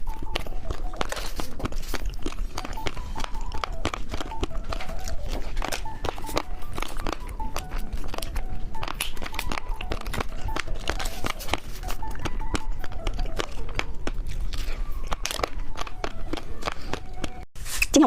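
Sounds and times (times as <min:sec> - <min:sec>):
soft background music: 0:00.0 - 0:17.4
plastic wrapper crinkling and tearing: 0:00.0 - 0:17.9.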